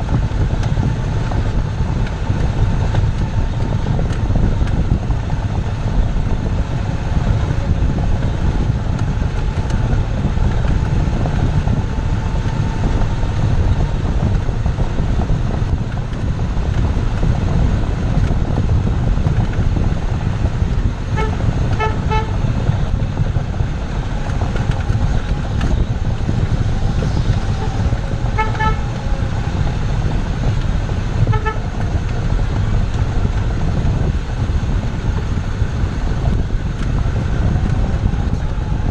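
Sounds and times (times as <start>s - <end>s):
car road and wind noise: 0.0s - 38.9s.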